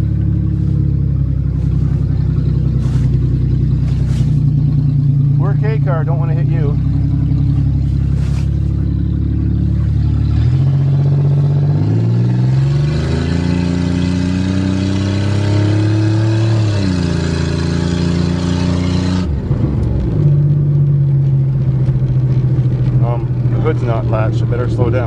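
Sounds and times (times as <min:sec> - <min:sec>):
car engine under throttle: 0:00.0 - 0:25.0.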